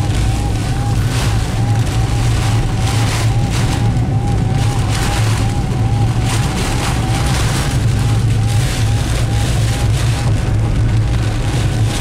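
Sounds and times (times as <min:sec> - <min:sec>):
car engine and road drone: 0:00.0 - 0:12.0
rain and wind hiss: 0:00.0 - 0:12.0.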